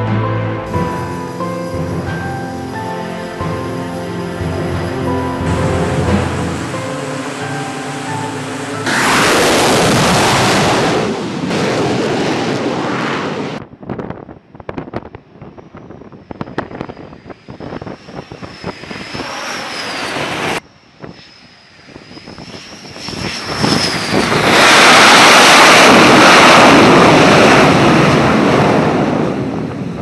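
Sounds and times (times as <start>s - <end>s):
jet engines whining: 0.0s - 13.6s, 15.2s - 30.0s
jet engine roar: 0.0s - 30.0s.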